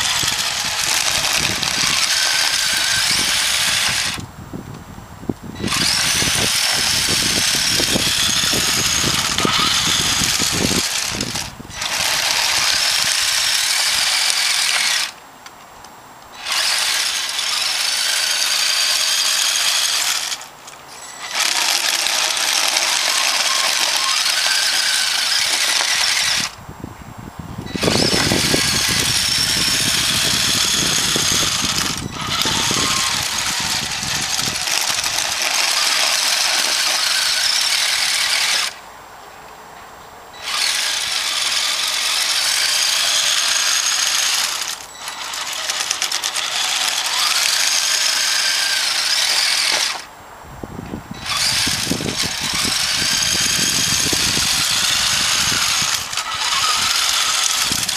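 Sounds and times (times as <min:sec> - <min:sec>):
toy truck motor and gears whining: 0:00.0 - 0:04.3, 0:05.5 - 0:15.2, 0:16.3 - 0:26.6, 0:27.6 - 0:38.8, 0:40.3 - 0:50.1, 0:51.1 - 0:57.9.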